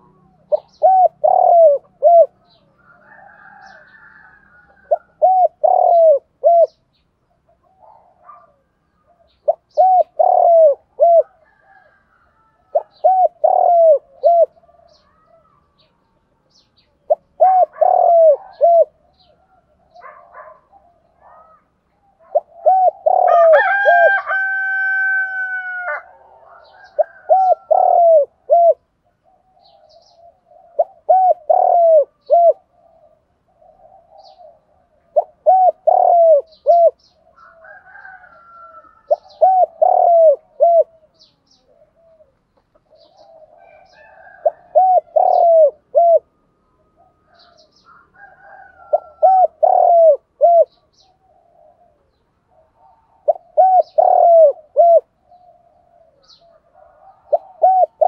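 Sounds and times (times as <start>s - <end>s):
small birds chirping: 0.0s - 23.4s, 26.2s - 46.0s, 46.6s - 58.0s
dove cooing: 0.0s - 58.0s.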